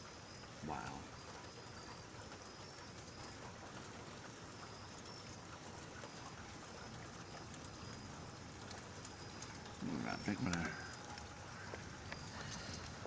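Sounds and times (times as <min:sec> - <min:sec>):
faint raindrop ticks: 0:00.0 - 0:13.0
steady rain hiss: 0:00.0 - 0:13.0.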